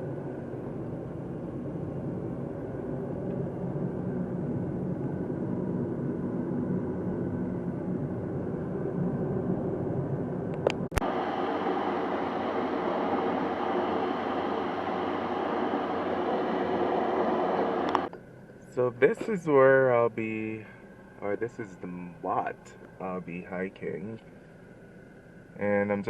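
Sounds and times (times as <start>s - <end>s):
road and engine noise inside car: 0.0s - 26.0s.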